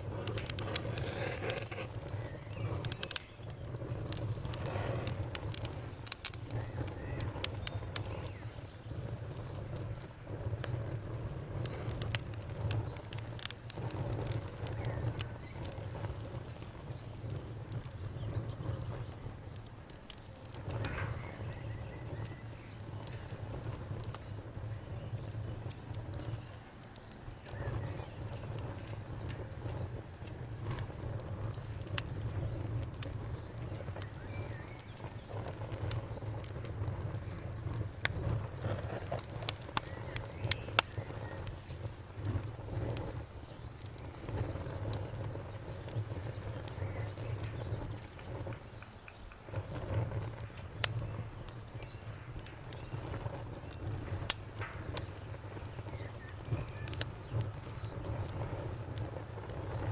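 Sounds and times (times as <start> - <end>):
campfire crackling and popping: 0.0 - 59.9
crickets chirping: 0.0 - 59.9
low rumble of flames: 0.0 - 59.9.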